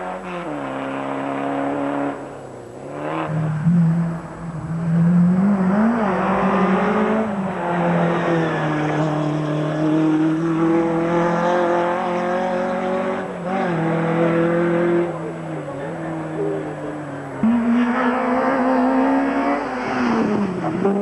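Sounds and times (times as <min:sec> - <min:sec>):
car engine revving high: 0:00.0 - 0:21.0.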